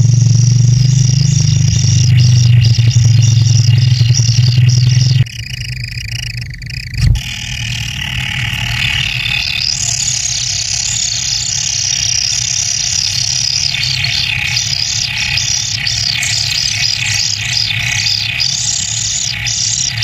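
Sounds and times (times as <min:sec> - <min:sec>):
low hum: 0:00.0 - 0:20.0
nestlings begging chorus: 0:00.0 - 0:20.0.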